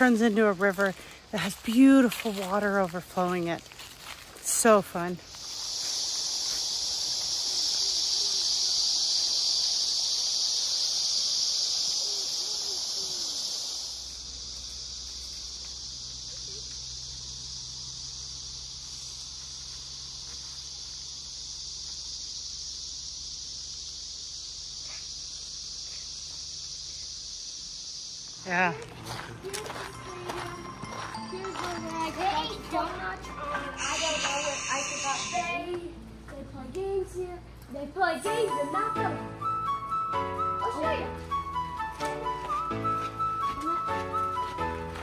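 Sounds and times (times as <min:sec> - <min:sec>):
insects calling: 0:00.0 - 0:45.0.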